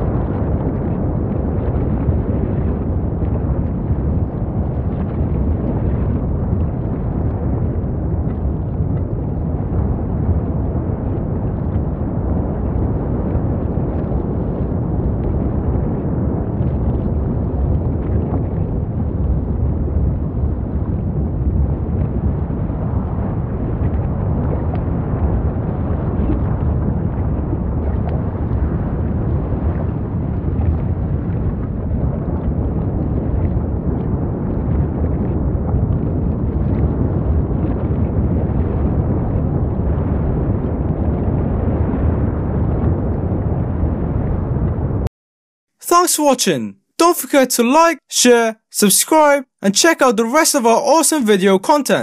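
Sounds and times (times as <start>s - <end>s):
volcanic eruption rumbling: 0.0s - 45.1s.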